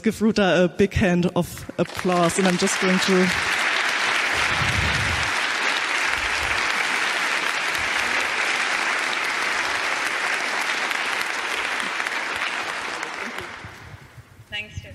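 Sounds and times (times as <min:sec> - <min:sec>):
audience applauding: 0:01.7 - 0:14.1.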